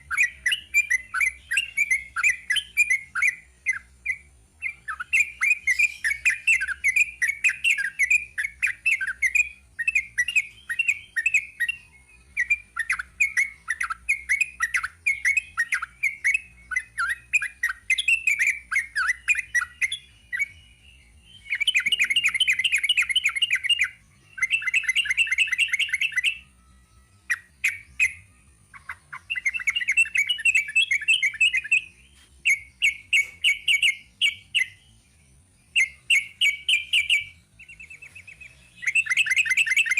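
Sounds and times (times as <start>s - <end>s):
bird singing bubbly chattering song: 0.0s - 26.5s, 27.2s - 39.9s.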